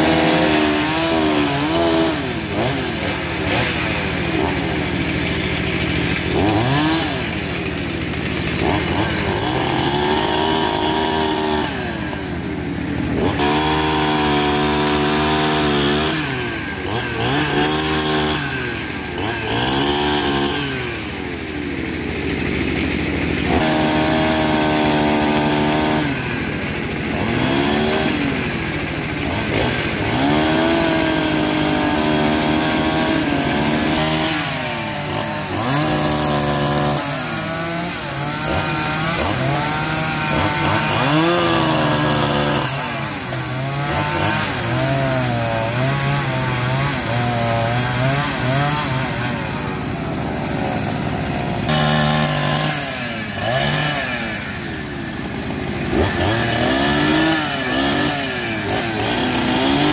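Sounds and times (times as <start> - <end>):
chainsaw cutting into log: 0.0 - 59.9.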